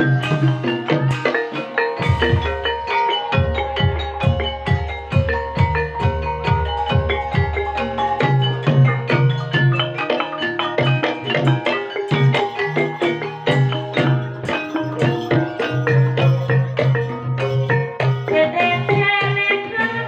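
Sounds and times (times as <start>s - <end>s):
higher drum pattern: 0.0s - 20.0s
tuned gamelan percussion melody: 0.0s - 20.0s.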